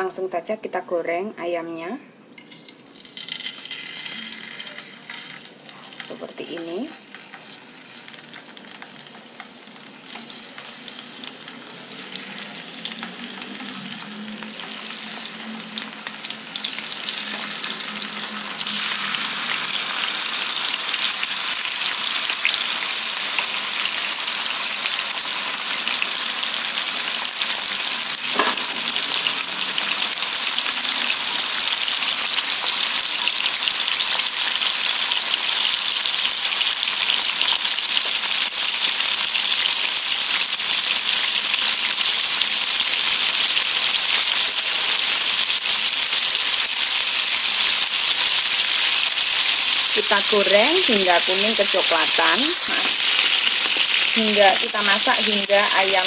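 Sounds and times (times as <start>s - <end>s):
chicken sizzling in a wok: 3.0s - 56.0s.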